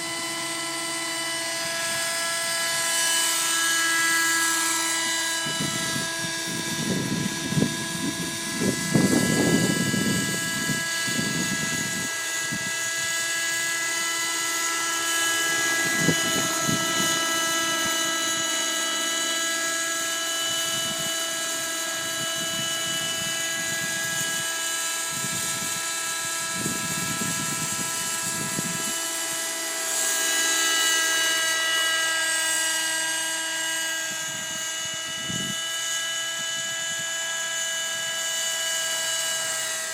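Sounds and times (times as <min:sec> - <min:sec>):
rc helicopter engine whine: 0:00.0 - 0:39.9
wind buffeting microphone: 0:04.2 - 0:38.2.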